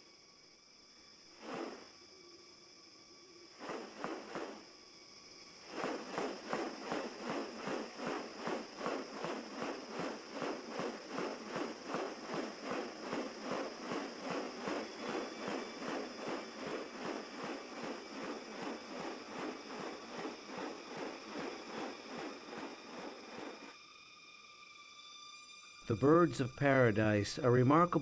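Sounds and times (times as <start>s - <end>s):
high-pitched insect buzz: 0.0s - 25.9s.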